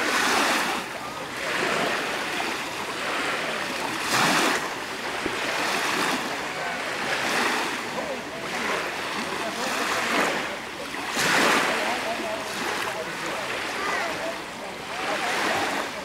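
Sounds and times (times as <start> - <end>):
waves washing in shallow water: 0.0 - 16.0.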